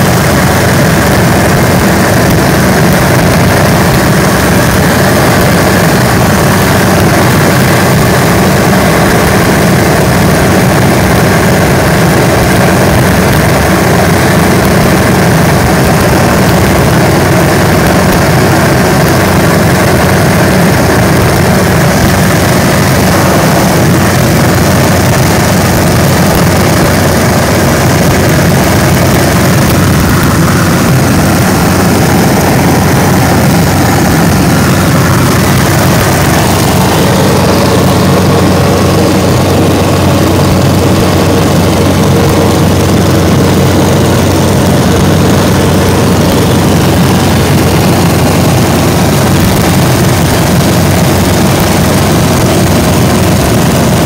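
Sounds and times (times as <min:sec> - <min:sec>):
air rushing over airframe: 0:00.0 - 0:53.5
propeller airplane engine droning: 0:00.0 - 0:54.0.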